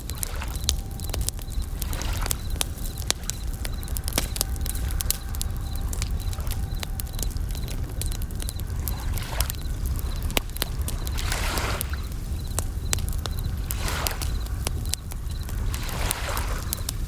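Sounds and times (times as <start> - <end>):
campfire crackling and popping: 0.0 - 17.0
crickets chirping: 0.0 - 17.0
low rumble: 0.0 - 17.0
waves washing in: 0.0 - 17.0.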